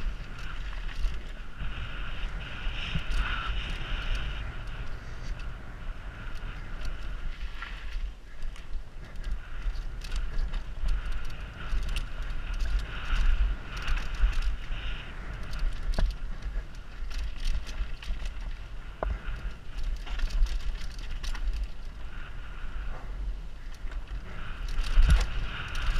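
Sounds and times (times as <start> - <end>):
bike rattling and clicking: 0.0 - 25.9
wind buffeting microphone: 0.0 - 25.9.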